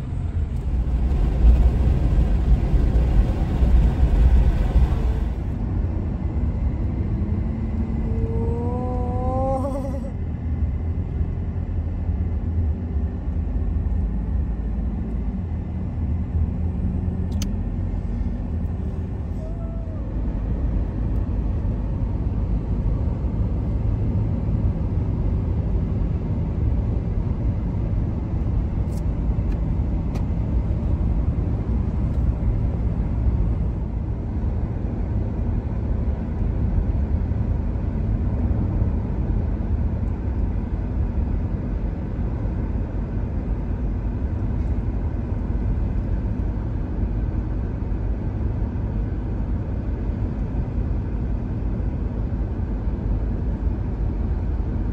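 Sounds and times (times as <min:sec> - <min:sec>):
car driving at highway speed: 0:00.0 - 0:54.9.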